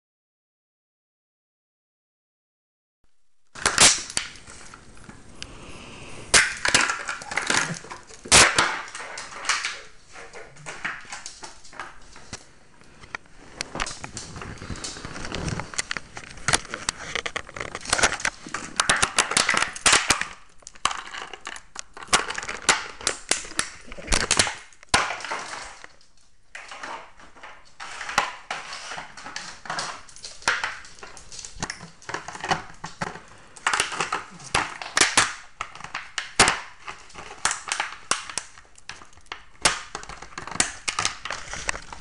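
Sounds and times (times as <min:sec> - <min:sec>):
plastic bottle crackling: 0:03.5 - 0:42.0.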